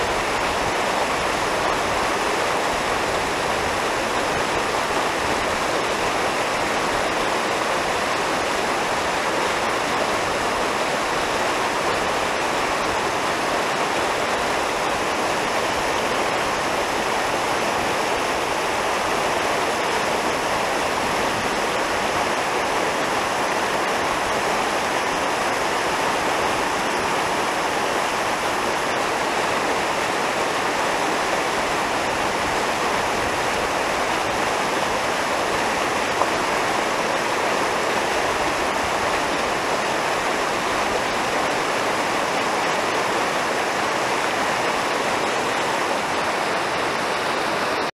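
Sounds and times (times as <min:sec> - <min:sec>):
stream rushing over boulders: 0:00.0 - 0:48.0.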